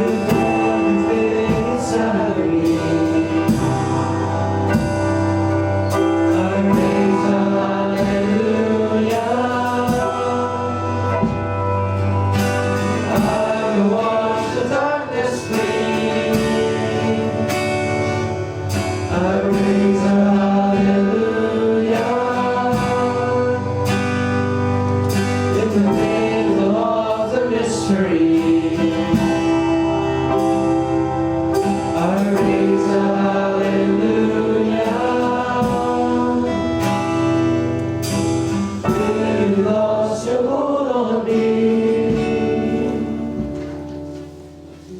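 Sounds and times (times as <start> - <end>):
people singing: 0.0 - 44.0
drums: 0.0 - 44.9
guitar: 0.0 - 44.9.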